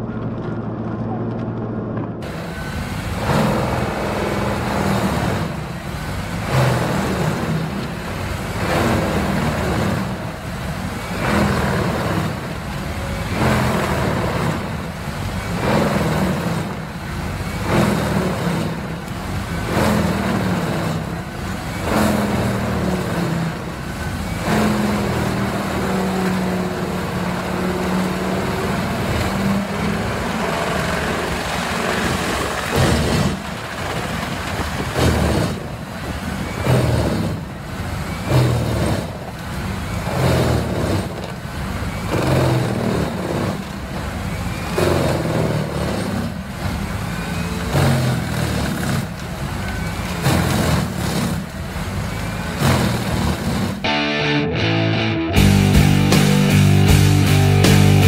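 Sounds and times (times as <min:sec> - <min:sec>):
wood chipper diesel engine under load: 0:00.0 - 0:58.0.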